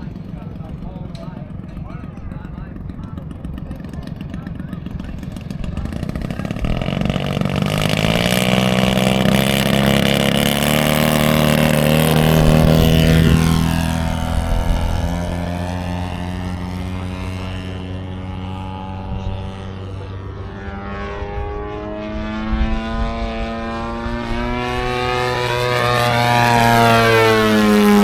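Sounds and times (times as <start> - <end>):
model airplane engine fly-by: 0.0 - 28.0.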